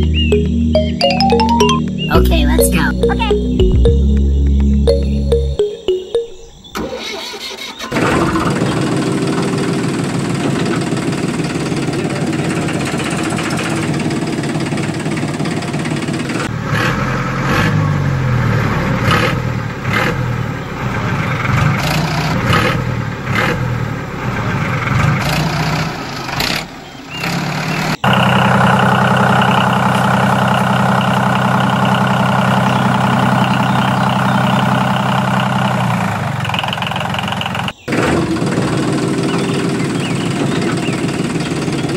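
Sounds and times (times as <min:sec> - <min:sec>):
tractor engine revving: 0:06.8 - 0:26.6, 0:27.3 - 0:41.9.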